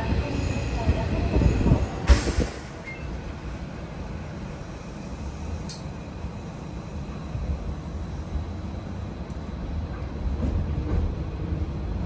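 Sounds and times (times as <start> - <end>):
train wheels rumbling and squealing: 0.0 - 12.0.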